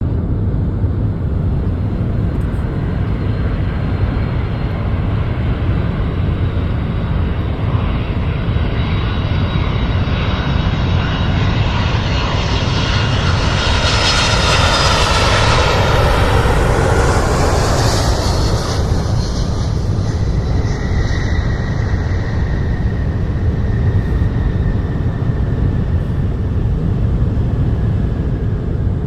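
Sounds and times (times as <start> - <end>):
airplane engine rumble: 0.0 - 29.0.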